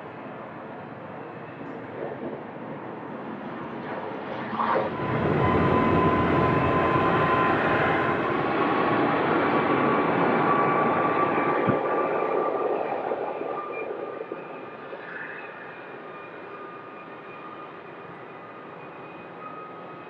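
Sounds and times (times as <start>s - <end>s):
distant jet engines: 0.0s - 20.0s.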